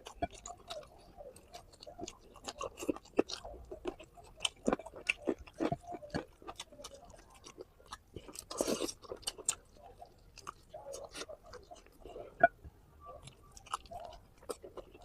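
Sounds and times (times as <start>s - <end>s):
chewing and mouth smacking: 0.0s - 15.0s.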